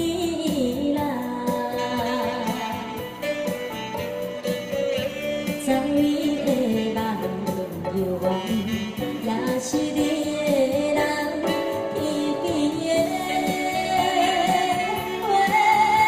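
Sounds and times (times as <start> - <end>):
electronic keyboard backing with beat: 0.0 - 16.0
saxophone melody: 1.2 - 16.0.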